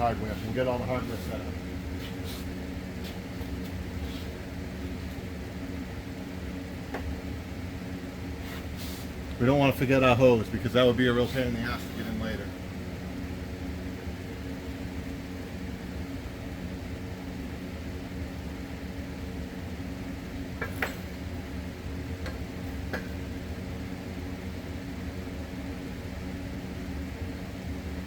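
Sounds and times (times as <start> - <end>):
shop equipment humming: 0.0 - 28.0.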